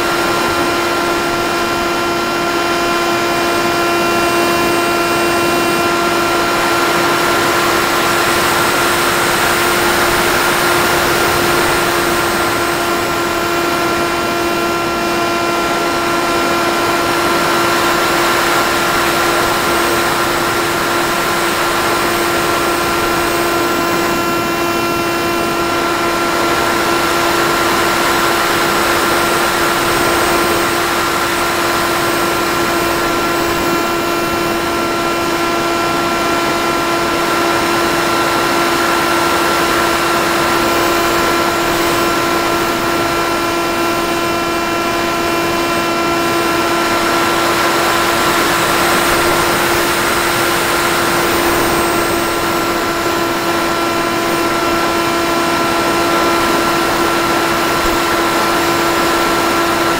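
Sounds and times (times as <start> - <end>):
electric motor whine: 0.0 - 59.9.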